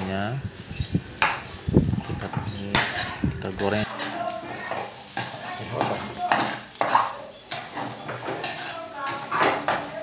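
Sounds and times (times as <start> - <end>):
rice sizzling in oil: 0.0 - 10.0
spatula scraping a frying pan: 0.5 - 10.0.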